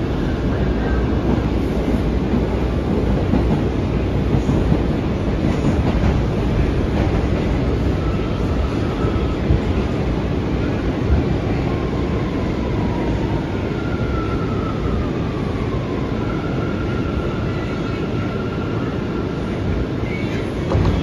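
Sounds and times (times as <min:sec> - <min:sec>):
rumble of wheels on rail: 0:00.0 - 0:21.0.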